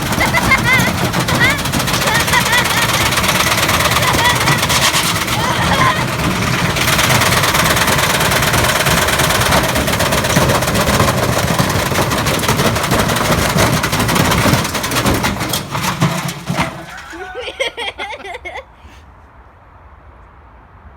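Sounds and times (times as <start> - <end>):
brick banging against drum: 0.0 - 17.7
washing machine drum spinning: 0.0 - 18.0.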